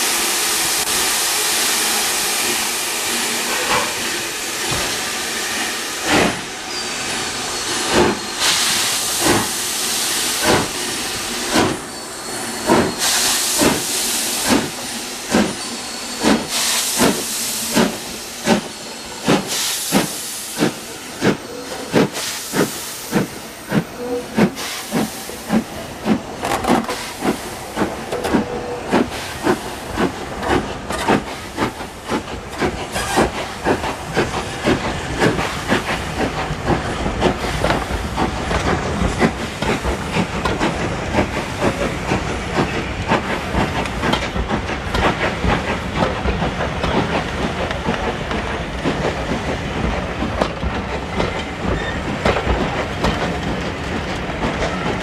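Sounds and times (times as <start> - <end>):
carriages rumbling on rails: 0.0 - 55.0
loud steam hiss: 0.0 - 55.0
steam locomotive chuffing: 0.0 - 55.0.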